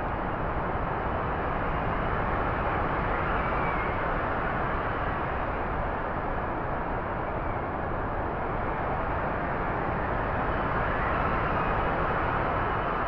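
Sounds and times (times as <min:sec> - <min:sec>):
strong storm wind: 0:00.0 - 0:13.0.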